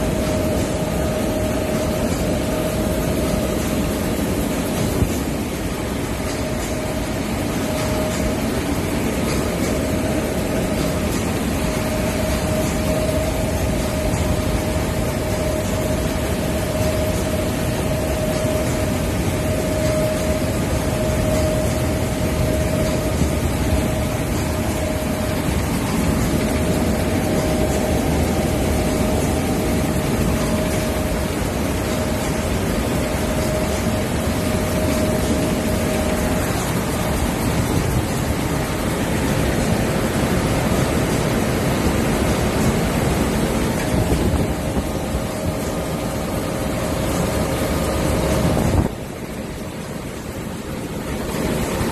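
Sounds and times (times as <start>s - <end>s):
machine rushing noise: 0.0s - 51.9s
mid-pitched machine whine: 0.0s - 51.9s.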